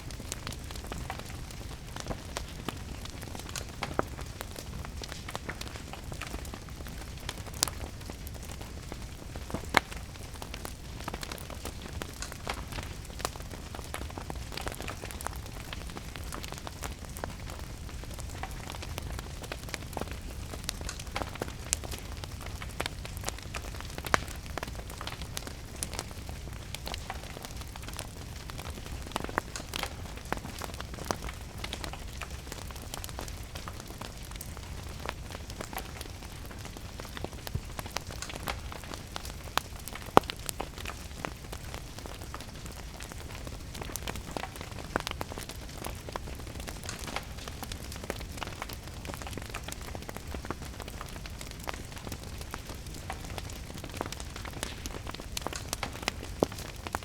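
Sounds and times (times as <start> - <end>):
rain pattering: 0.0 - 57.0
wood fire crackling and popping: 0.0 - 57.0.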